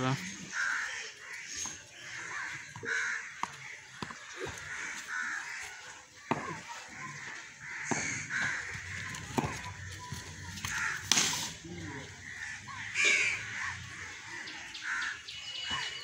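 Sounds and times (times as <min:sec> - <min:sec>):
crows cawing: 0:00.0 - 0:15.9.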